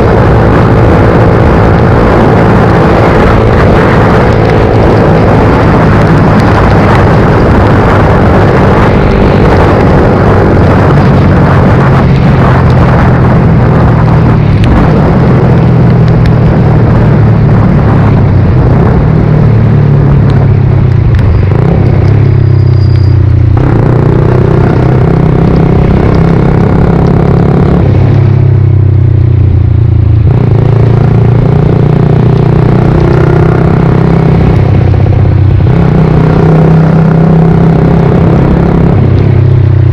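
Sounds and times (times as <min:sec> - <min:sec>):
loud rushing noise: 0:00.0 - 0:39.9
motorcycle engine running: 0:00.0 - 0:39.9.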